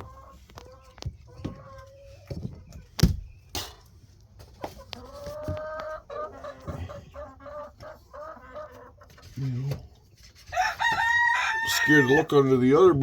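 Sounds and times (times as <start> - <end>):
drawn-out hen calls: 0.0 - 3.4, 4.4 - 13.0
chickens clucking: 0.0 - 13.0.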